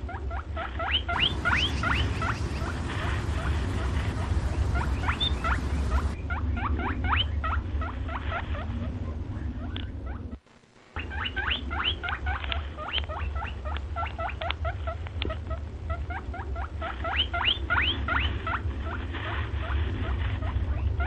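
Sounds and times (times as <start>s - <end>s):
small animals squeaking: 0.0s - 10.4s, 11.0s - 21.0s
steady low hum: 0.0s - 21.0s.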